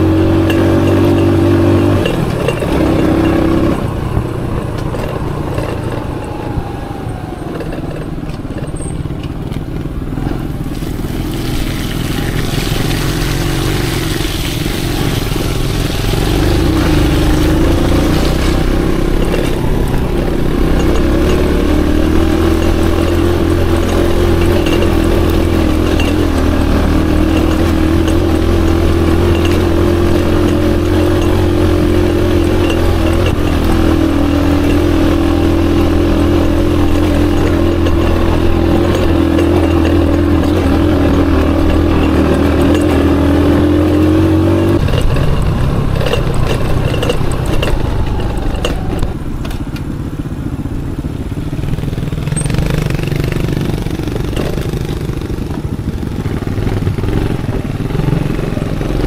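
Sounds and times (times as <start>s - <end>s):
motorcycle engine running: 0.0s - 59.0s
rough uneven engine sound: 0.0s - 59.0s.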